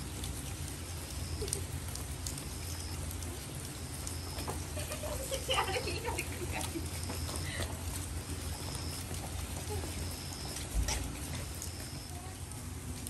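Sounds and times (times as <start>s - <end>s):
rain on wet pavement: 0.0s - 13.0s.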